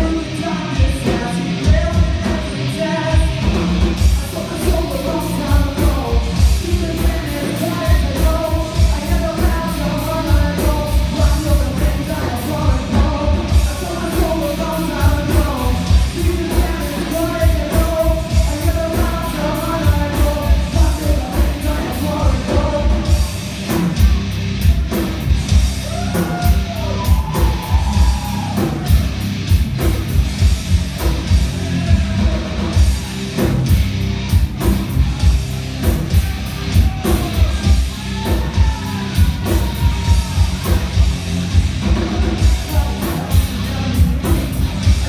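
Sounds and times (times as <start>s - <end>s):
vocalist singing: 0.0s - 25.2s, 25.8s - 45.0s
live rock band playing: 0.0s - 45.0s.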